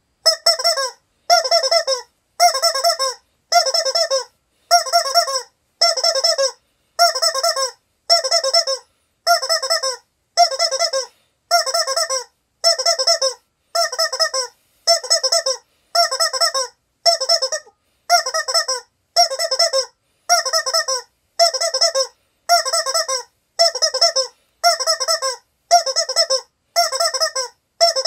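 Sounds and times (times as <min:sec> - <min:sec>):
rubber chicken toy squeaking: 0:00.2 - 0:28.0.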